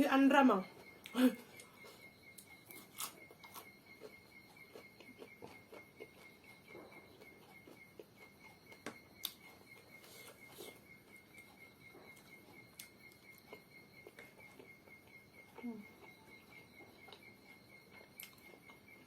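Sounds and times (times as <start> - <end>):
cricket chirping: 0.0 - 19.0
person chewing: 0.8 - 19.0.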